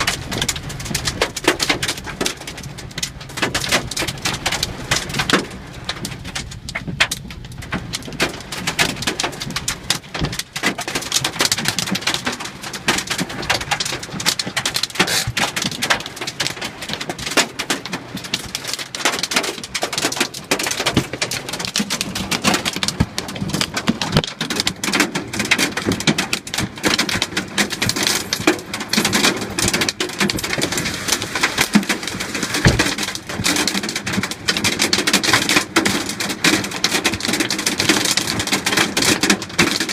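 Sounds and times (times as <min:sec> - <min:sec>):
hailstones clattering: 0:00.0 - 0:39.9
heavy rain: 0:00.0 - 0:39.9.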